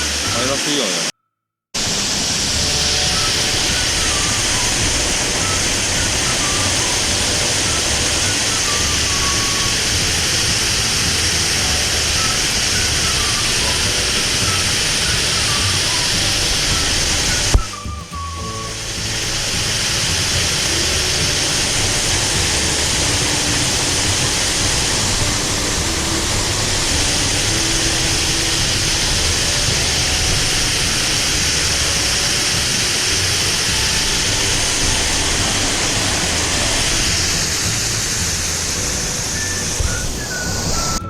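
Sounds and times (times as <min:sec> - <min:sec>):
waterfall rushing: 0:00.0 - 0:01.1, 0:01.8 - 0:41.0.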